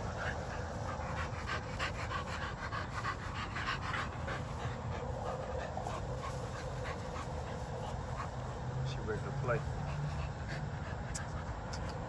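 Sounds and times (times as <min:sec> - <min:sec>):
puppy panting fast: 0:00.0 - 0:12.0.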